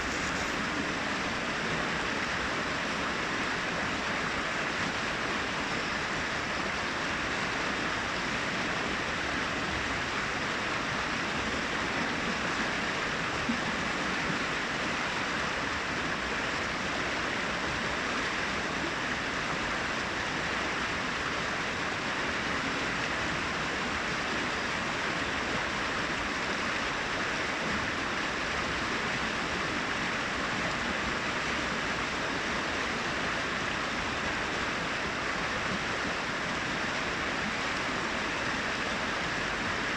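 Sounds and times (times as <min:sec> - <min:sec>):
brook water over rocks: 0:00.0 - 0:39.9.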